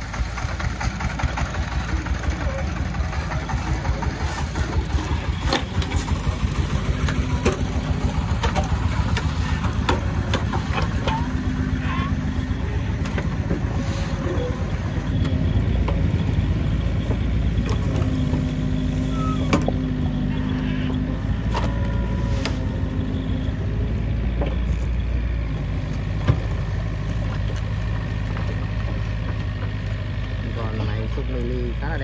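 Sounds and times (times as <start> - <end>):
diesel engine running: 0.0 - 32.0
hydraulics working: 0.0 - 32.0.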